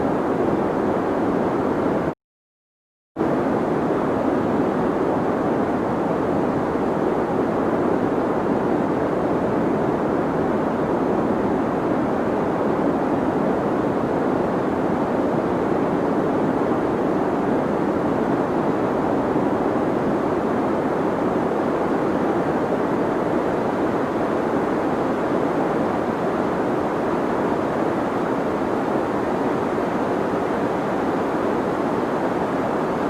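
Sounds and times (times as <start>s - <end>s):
deep white noise: 3.2s - 33.0s.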